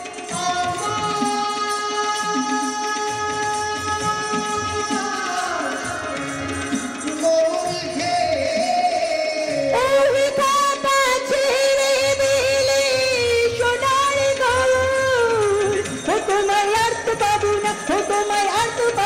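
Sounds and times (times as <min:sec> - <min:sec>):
person singing folk song: 0:00.0 - 0:06.0, 0:07.0 - 0:19.0
harmonium: 0:00.0 - 0:19.0.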